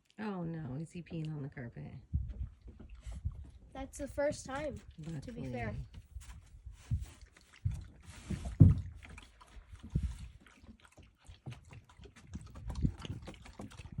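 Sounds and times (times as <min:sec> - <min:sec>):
small hooves thumping and clicking: 0:02.0 - 0:14.0.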